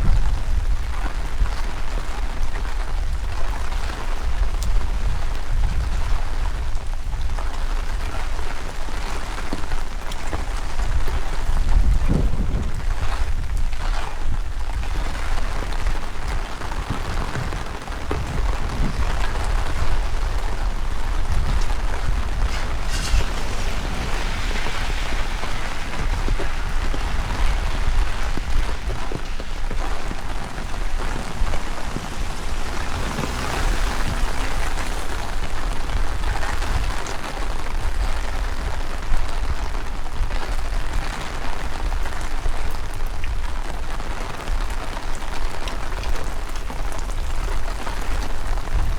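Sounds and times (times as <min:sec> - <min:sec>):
heavy rain splashing: 0:00.0 - 0:48.9
wind buffeting microphone: 0:00.0 - 0:48.9.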